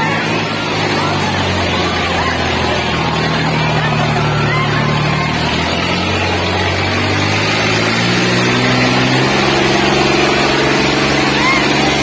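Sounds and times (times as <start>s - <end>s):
tractor diesel engine revving: 0.0s - 12.0s.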